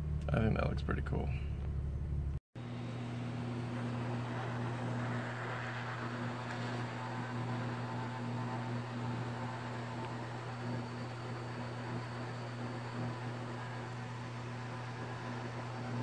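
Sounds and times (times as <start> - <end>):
low even hum: 0.0 - 16.0
hot air blowing hiss: 2.6 - 16.0.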